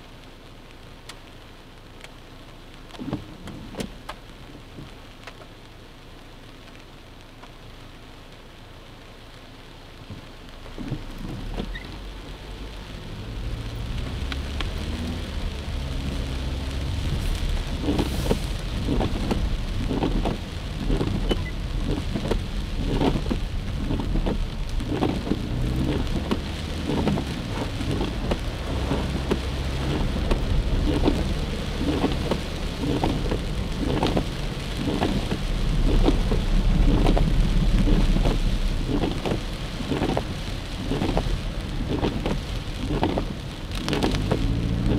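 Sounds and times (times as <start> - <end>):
car driving on wet road: 0.0 - 44.9
rain pattering on car roof: 0.0 - 44.9.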